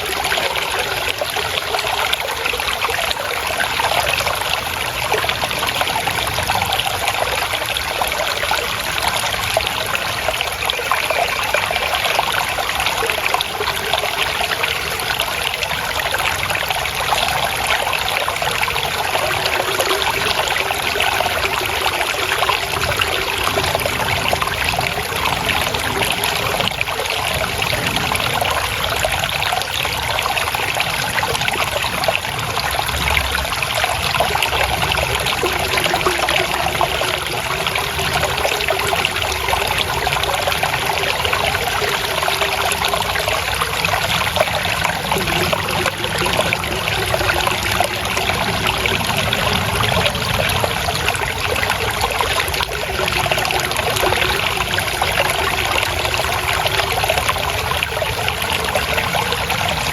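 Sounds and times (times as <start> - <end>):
stream water trickling and gurgling: 0.0 - 59.9.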